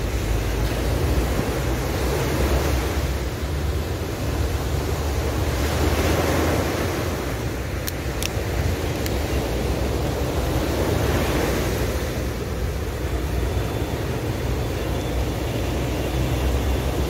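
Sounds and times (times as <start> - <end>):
waves breaking on shore: 0.0 - 17.0
wind rumbling on microphone: 0.0 - 17.0.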